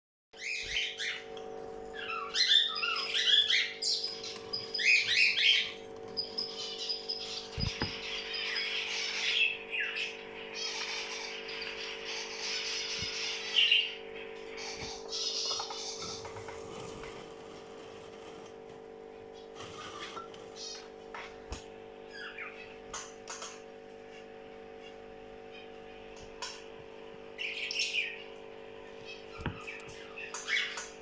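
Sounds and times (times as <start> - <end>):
small birds chirping: 0.4 - 18.5, 19.1 - 31.0
steady low hum: 0.4 - 31.0.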